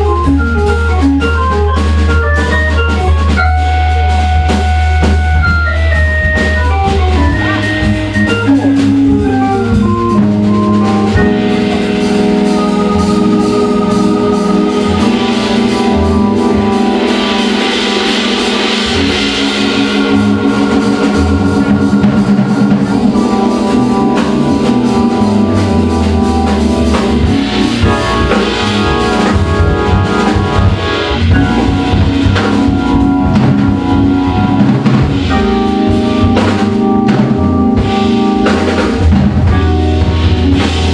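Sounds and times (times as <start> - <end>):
drum kit cymbals and drums: 0.0 - 40.9
organ chords and bass line: 0.0 - 40.9.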